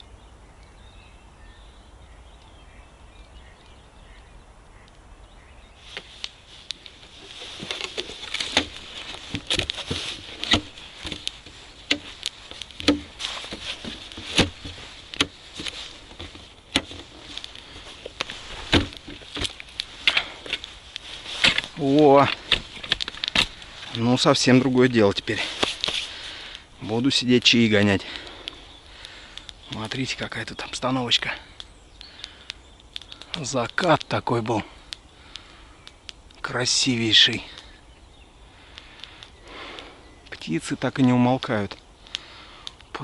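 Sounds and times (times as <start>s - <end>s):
campfire crackling: 0.0s - 43.0s
faint birdsong: 0.0s - 43.0s.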